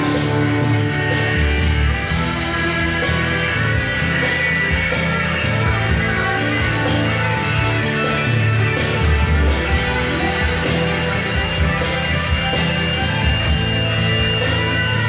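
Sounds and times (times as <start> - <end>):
band accompaniment: 0.0 - 15.0
electric guitar lead line: 0.0 - 15.0.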